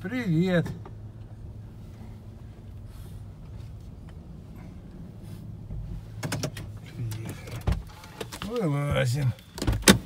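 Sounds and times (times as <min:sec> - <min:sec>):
car engine hum from inside: 0:00.0 - 0:10.0.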